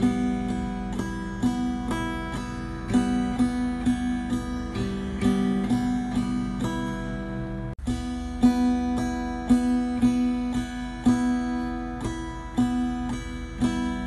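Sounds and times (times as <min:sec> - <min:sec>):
plucked instrumental music: 0:00.0 - 0:14.0.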